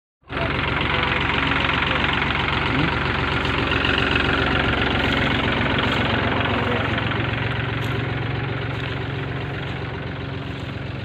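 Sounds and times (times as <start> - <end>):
combine harvester engine clattering: 0.2 - 11.0.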